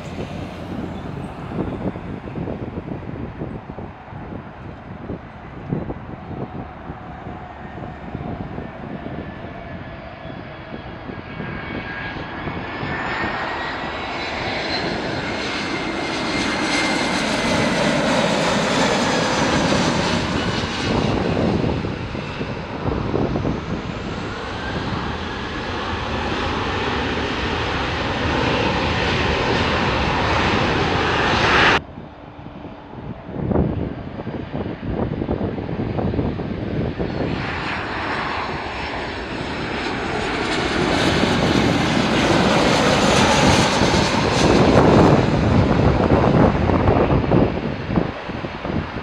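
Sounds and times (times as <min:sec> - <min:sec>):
jet airliner passing with whine: 0:00.0 - 0:49.0.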